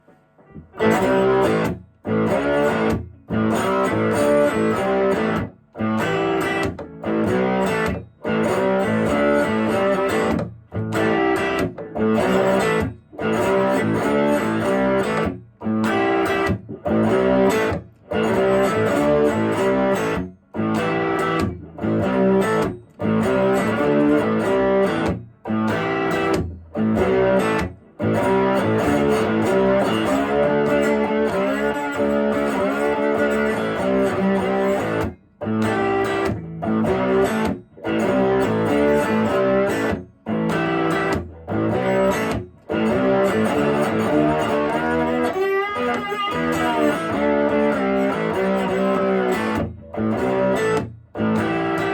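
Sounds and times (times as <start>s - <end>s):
slide electric guitar blues riff: 0.4s - 51.9s.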